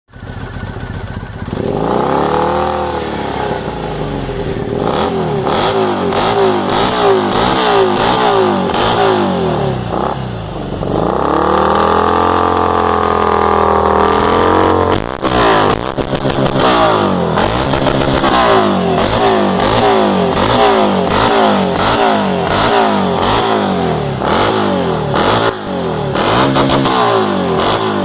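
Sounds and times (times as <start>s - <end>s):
motorcycle engine revving: 0.1s - 28.0s
exhaust crackles: 0.2s - 28.0s.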